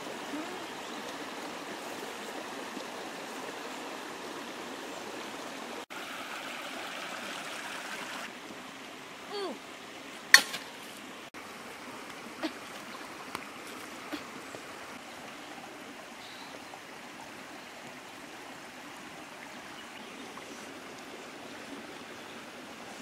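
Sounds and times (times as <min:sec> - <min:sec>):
stream flowing over rocks: 0:00.0 - 0:23.0.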